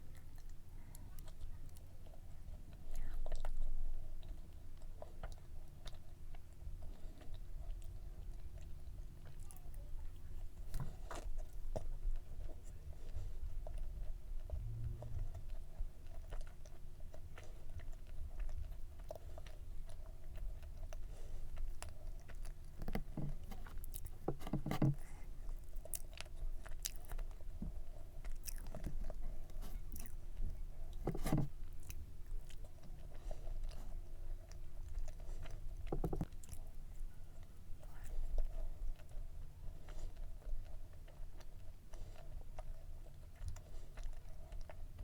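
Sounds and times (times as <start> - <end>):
chewing and biting cake: 0.0 - 45.0.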